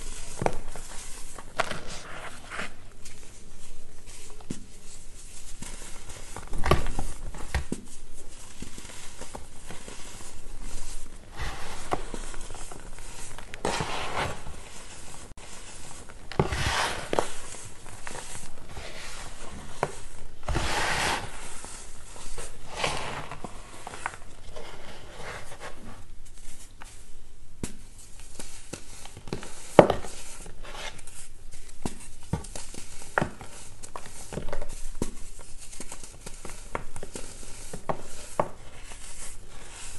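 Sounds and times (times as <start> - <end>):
powder sifting: 0.0 - 27.1, 32.0 - 39.9.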